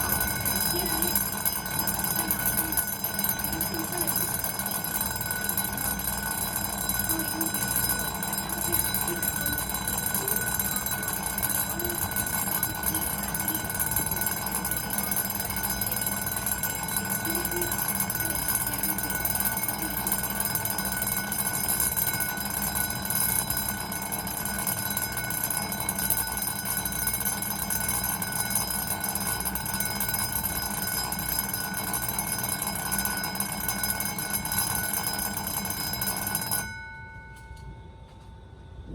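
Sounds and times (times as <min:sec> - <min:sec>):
electric bell ringing: 0:00.0 - 0:38.9.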